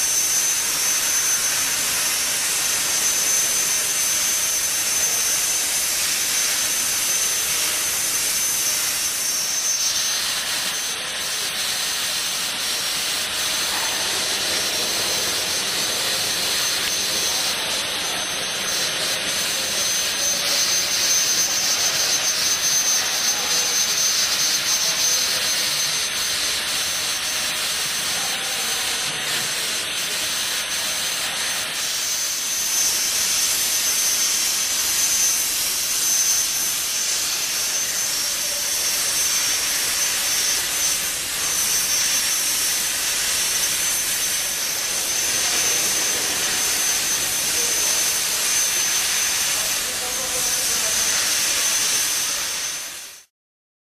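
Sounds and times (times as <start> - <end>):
plasma torch hissing: 0.0 - 53.0
thin high whine: 0.0 - 53.3.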